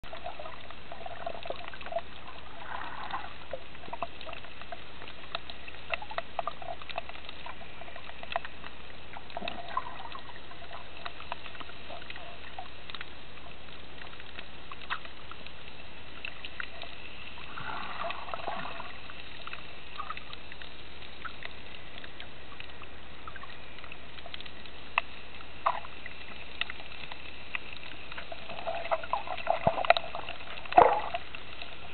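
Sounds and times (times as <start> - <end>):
clicks and crackles: 0.0 - 31.9
watery gurgles: 0.0 - 31.9
underwater hiss: 0.2 - 13.0, 13.7 - 31.9.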